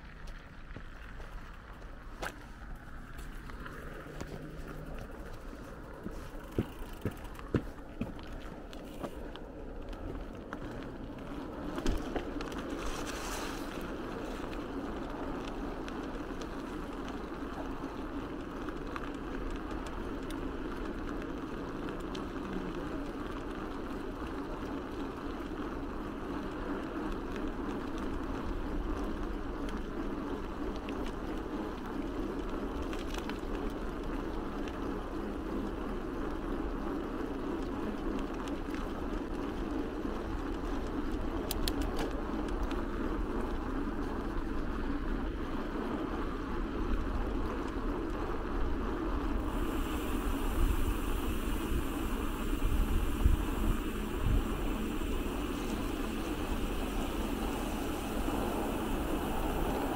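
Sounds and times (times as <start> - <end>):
bicycle tyres rolling: 0.0 - 59.9
wind: 0.0 - 59.9.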